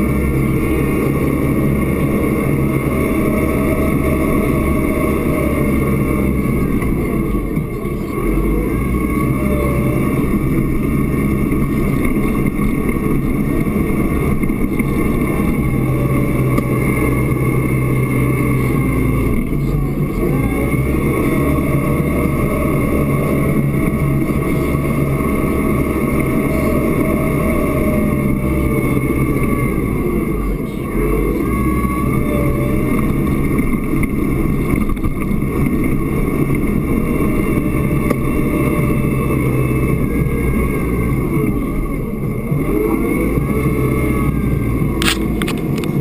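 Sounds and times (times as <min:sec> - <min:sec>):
steady high whine: 0:00.0 - 0:46.0
tractor engine running under load: 0:00.0 - 0:46.0.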